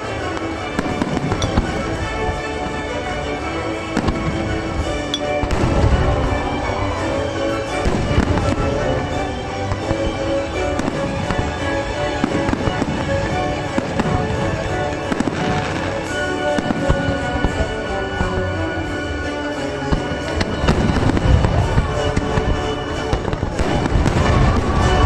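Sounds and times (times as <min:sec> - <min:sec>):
fireworks bursting and crackling: 0:00.0 - 0:25.0
music with sustained tones: 0:00.0 - 0:25.0.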